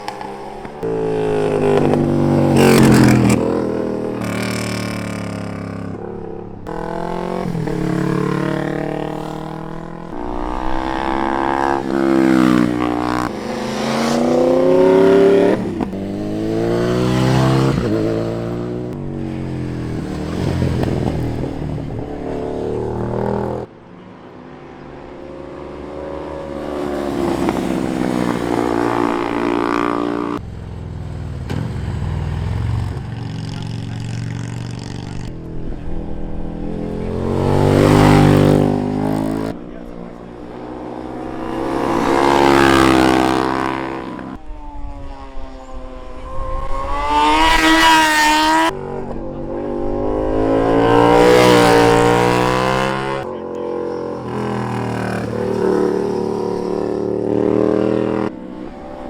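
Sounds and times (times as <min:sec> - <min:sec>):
superbike engine revving: 0:00.0 - 0:23.7, 0:25.0 - 0:59.0.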